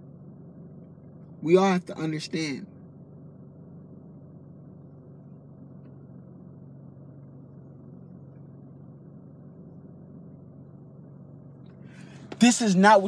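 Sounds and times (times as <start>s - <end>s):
car engine hum from inside: 0.0s - 13.0s.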